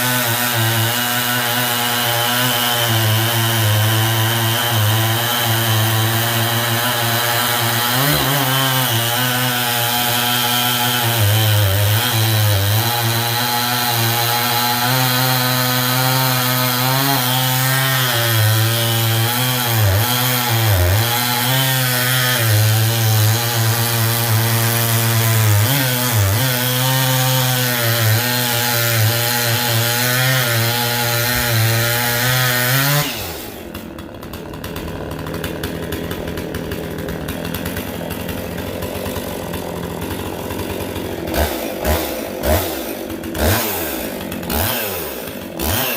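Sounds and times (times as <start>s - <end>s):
chainsaw running at high revs: 0.0s - 45.9s.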